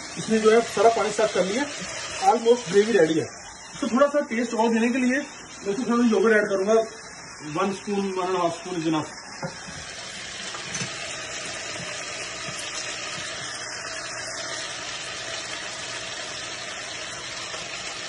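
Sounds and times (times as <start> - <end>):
gravy sizzling in a pan: 0.0 - 18.0.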